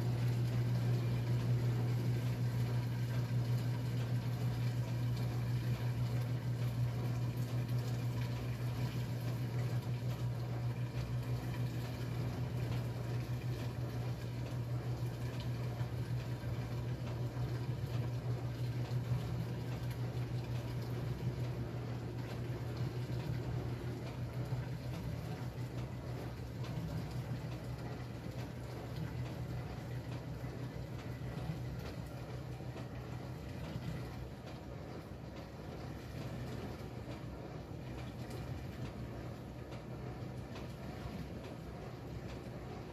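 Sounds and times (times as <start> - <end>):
washing machine motor hum: 0.0 - 42.9
water sloshing in tub: 0.0 - 42.9.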